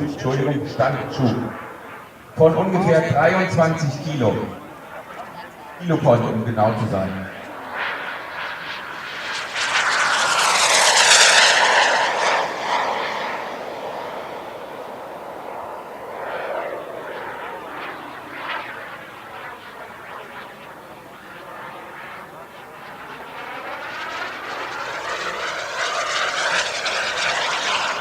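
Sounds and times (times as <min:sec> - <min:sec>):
model jet turbine flying past: 0:00.0 - 0:28.0.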